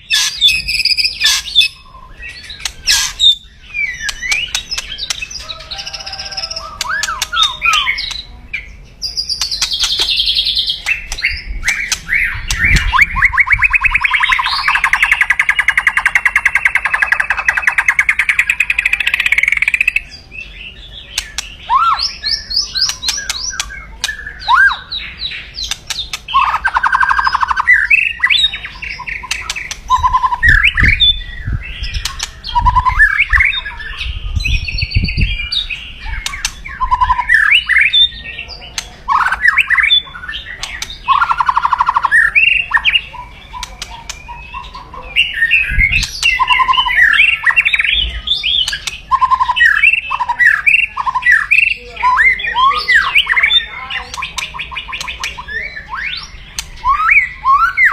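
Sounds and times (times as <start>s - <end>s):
bird whistled phrases and trills: 0.0s - 57.9s.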